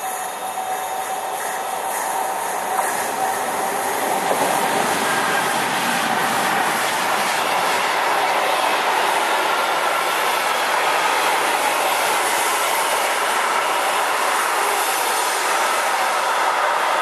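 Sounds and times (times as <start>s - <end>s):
train wheels rolling on rail: 0.0s - 17.0s.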